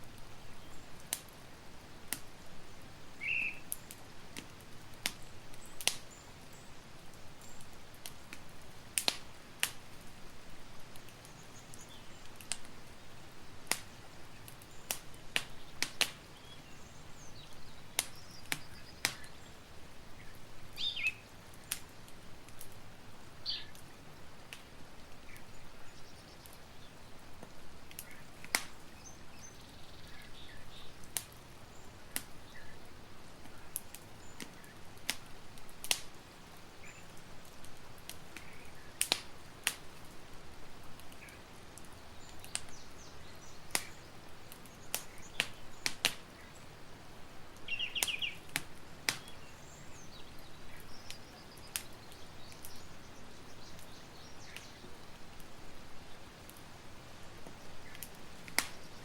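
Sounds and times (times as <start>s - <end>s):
campfire crackling: 0.0s - 59.0s
soft steady hiss: 0.0s - 59.0s.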